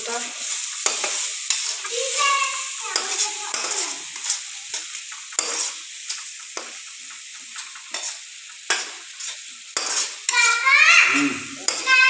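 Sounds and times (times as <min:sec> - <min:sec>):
spice paste sizzling in pan: 0:00.0 - 0:12.0
metal spoon scraping pan: 0:00.3 - 0:02.2, 0:02.9 - 0:10.6, 0:11.6 - 0:12.0.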